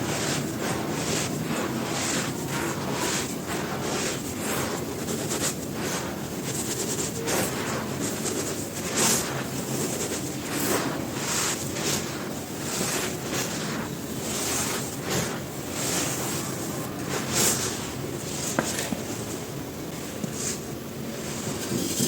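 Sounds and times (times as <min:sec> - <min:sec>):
chalk crumbling by hand: 0:00.0 - 0:19.1.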